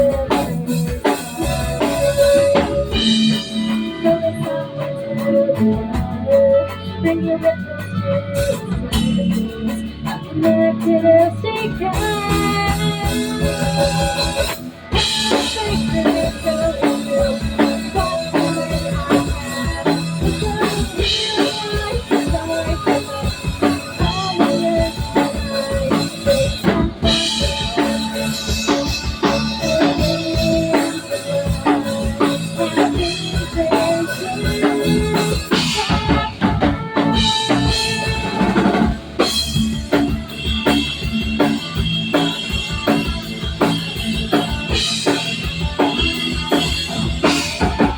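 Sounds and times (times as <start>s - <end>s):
music with drum beat: 0.0s - 47.9s.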